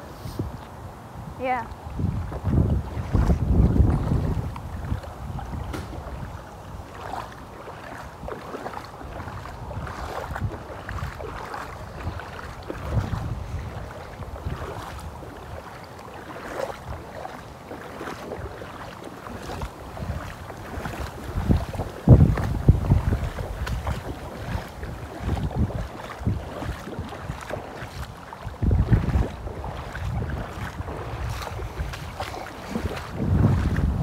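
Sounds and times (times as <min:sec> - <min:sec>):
footsteps wading through water: 0:00.0 - 0:34.0
wind rumbling on microphone: 0:00.0 - 0:34.0.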